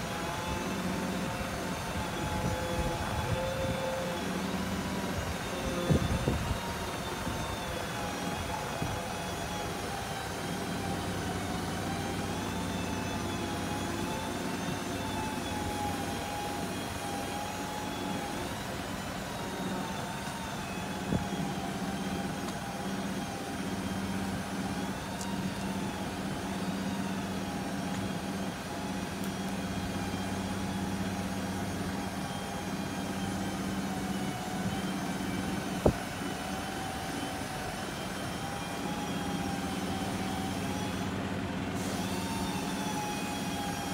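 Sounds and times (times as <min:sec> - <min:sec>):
diesel engine running: 0:00.0 - 0:43.9
hydraulic whine wavering in pitch: 0:00.0 - 0:43.9.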